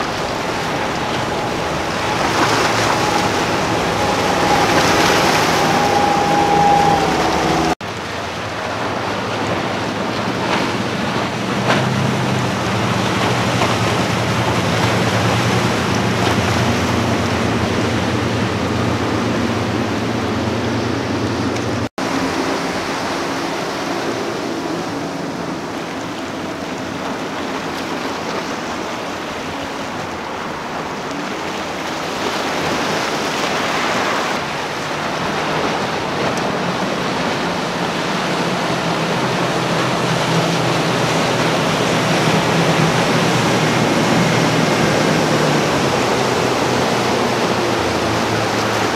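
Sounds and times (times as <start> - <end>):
outboard motors drone: 0.0 - 48.9
water rushing from hull: 0.0 - 48.9.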